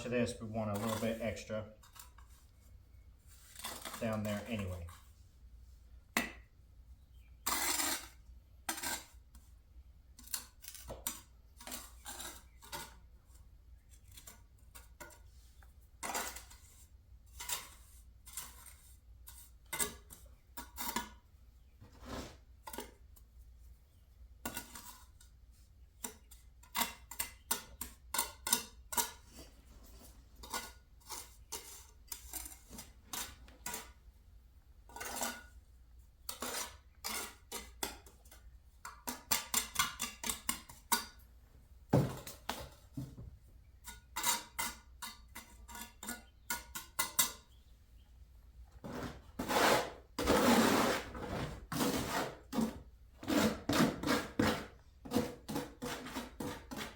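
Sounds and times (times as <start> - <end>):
trowel scraping brick and mortar: 0.0 - 5.2, 7.4 - 21.3, 24.4 - 34.0, 34.8 - 35.6, 36.2 - 41.2, 43.8 - 47.5, 48.8 - 56.9.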